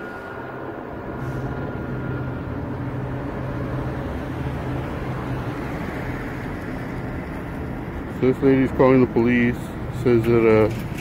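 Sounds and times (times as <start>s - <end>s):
vehicle noise hum and rumble: 0.0s - 11.0s.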